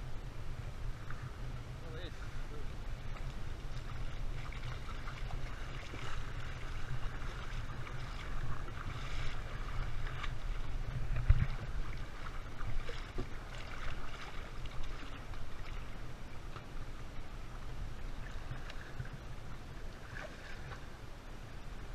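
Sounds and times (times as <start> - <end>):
wind buffeting microphone: 0.0 - 20.8
water sloshing and splashing: 0.9 - 21.2.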